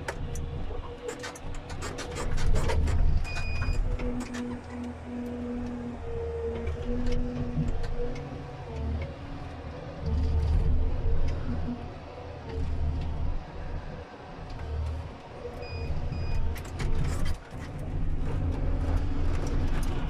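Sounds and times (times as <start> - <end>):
diesel engine and hydraulics: 0.0 - 20.0.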